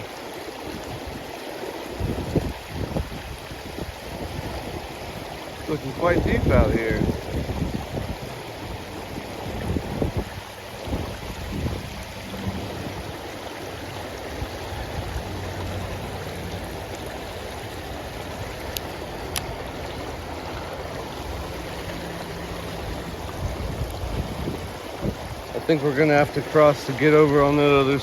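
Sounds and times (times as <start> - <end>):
river water flowing over rocks: 0.0 - 28.0.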